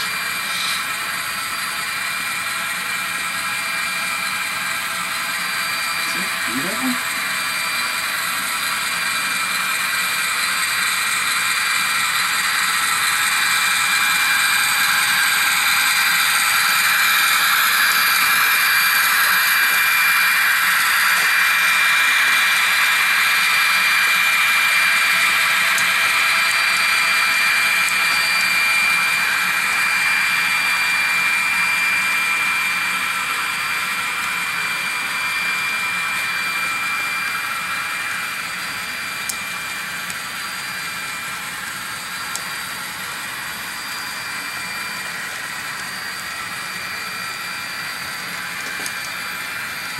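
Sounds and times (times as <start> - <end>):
model trains humming and rolling: 0.0 - 49.9.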